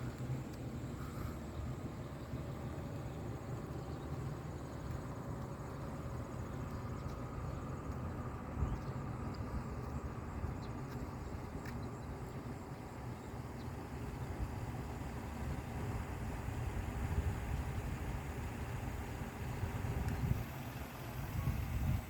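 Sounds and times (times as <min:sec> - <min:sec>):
vehicle driving rumble: 0:00.0 - 0:22.0.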